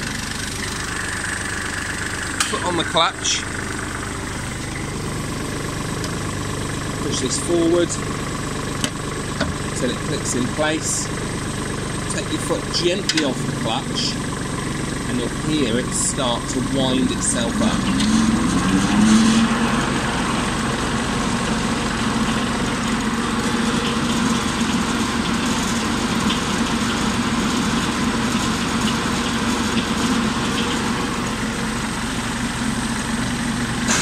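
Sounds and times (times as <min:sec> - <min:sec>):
mower blades whining: 0:00.0 - 0:34.0
tractor engine running: 0:00.0 - 0:34.0.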